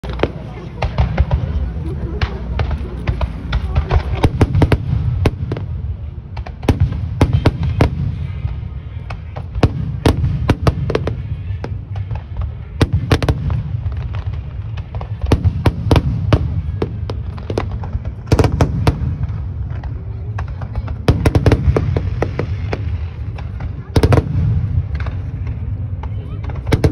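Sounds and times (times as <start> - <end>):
fireworks bursting: 0.0 - 26.9.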